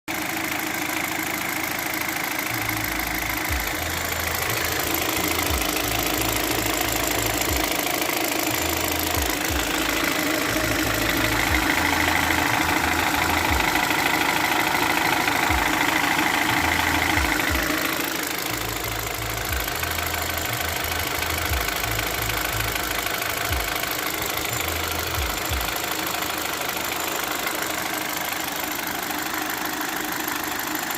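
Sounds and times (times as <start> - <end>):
car engine knocking: 0.1 - 30.9.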